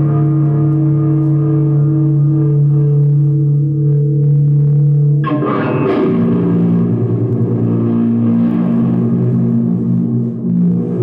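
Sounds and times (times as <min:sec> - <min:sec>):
experimental noise music drone: 0:00.0 - 0:11.0.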